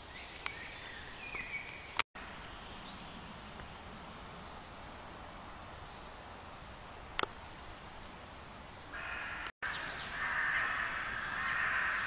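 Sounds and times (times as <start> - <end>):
steady background hiss: 2.2 - 12.0.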